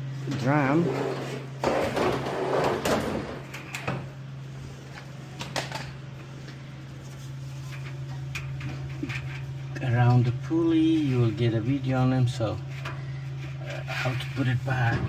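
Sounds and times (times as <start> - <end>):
steady low hum: 0.0 - 15.0
dryer parts scraping and clattering: 0.2 - 4.2, 4.8 - 15.0.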